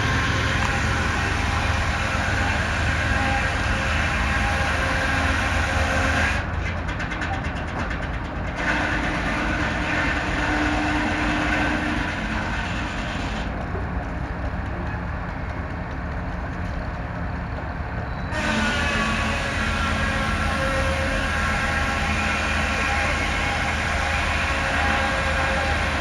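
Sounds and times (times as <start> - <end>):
heavy engine rumbling: 0.0 - 26.0.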